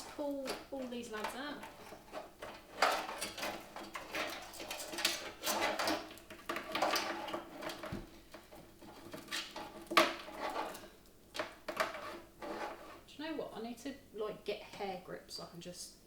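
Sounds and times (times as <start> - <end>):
cables and parts rattling: 0.0 - 13.0.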